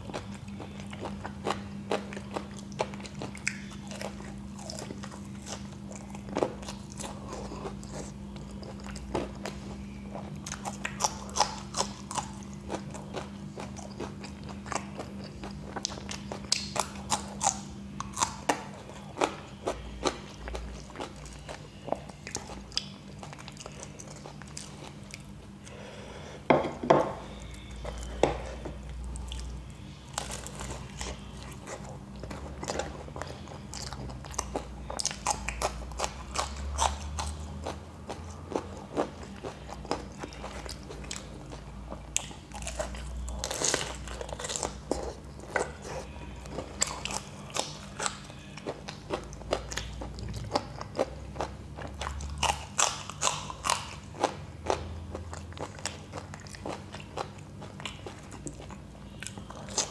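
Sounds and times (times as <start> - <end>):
wet chewing: 0.0 - 25.8, 27.4 - 59.9.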